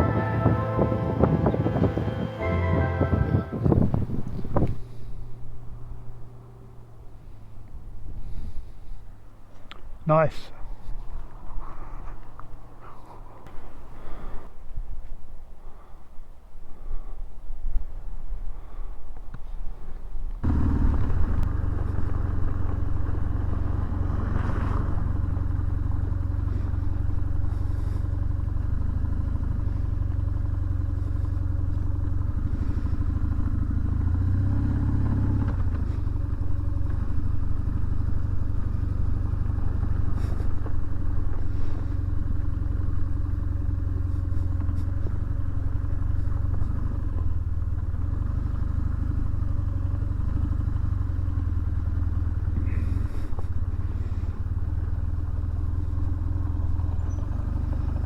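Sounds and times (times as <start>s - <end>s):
motorcycle engine running: 0.0s - 15.0s, 17.7s - 58.0s
wind and road noise: 0.0s - 58.0s.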